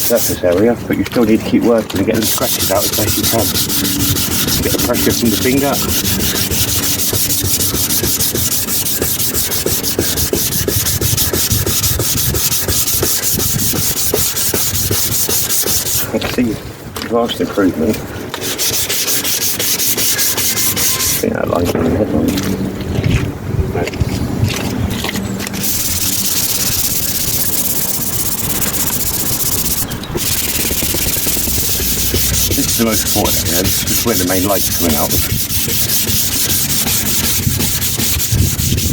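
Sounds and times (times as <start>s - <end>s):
sandpaper rubbing on plastic: 0.0s - 16.6s, 18.3s - 21.3s, 24.1s - 38.9s.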